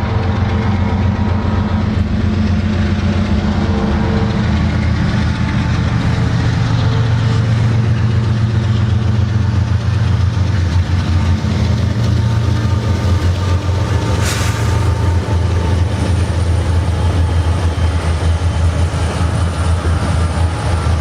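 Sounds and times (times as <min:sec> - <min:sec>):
diesel locomotive engines droning: 0:00.0 - 0:21.0.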